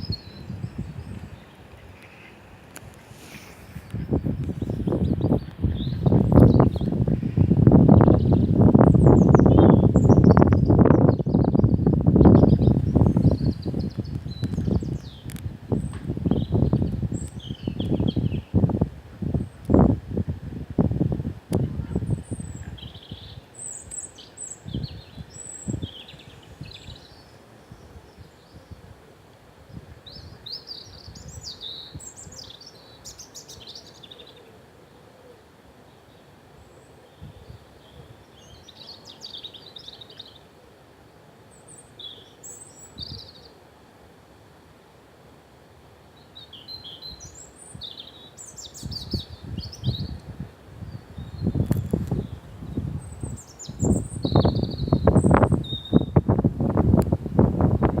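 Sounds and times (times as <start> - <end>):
small birds chirping: 0.0 - 18.8, 21.6 - 28.9, 29.6 - 34.5, 35.9 - 40.5, 41.5 - 43.6, 46.2 - 56.4
faint steady hiss: 0.0 - 58.0.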